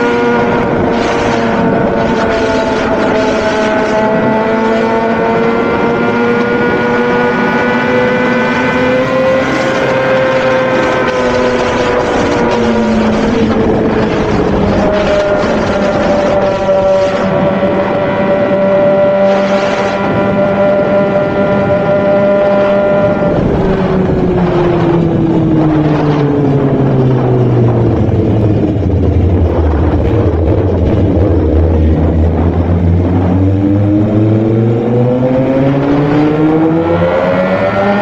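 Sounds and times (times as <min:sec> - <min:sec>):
motorcycle engine running: 0:00.0 - 0:38.0
wind rushing over microphone: 0:00.0 - 0:38.0.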